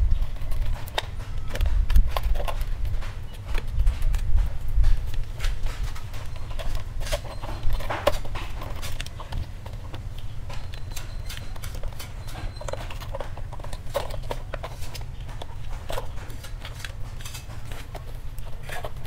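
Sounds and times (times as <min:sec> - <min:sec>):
cables knocking and rustling: 0:00.0 - 0:19.0.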